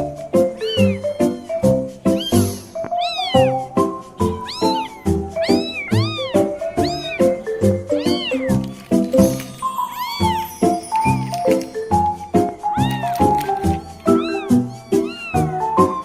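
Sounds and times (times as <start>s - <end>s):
cat meowing: 0.4s - 9.0s, 9.7s - 11.4s, 12.6s - 16.0s.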